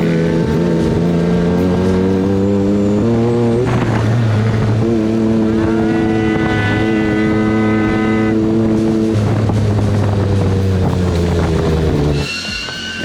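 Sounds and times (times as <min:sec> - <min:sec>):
buggy engine running hard: 0:00.0 - 0:13.0.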